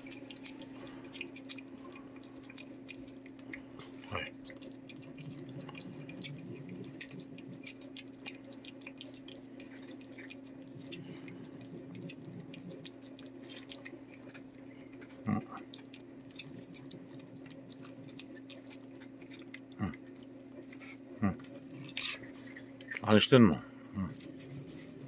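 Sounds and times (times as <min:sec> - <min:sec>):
cat licking wet mouth clicks: 0:00.0 - 0:23.1
steady low hum: 0:00.0 - 0:25.0.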